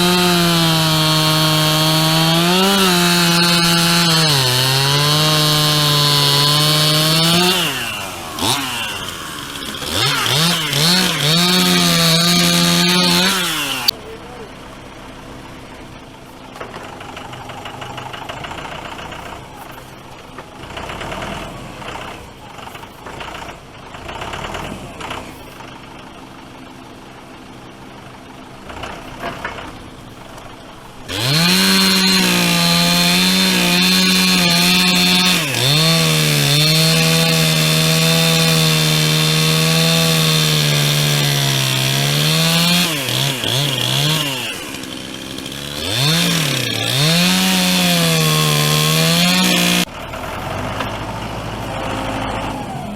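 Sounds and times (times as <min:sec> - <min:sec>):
chainsaw cutting wood: 0:00.0 - 0:14.0, 0:16.4 - 0:27.0, 0:28.1 - 0:52.9.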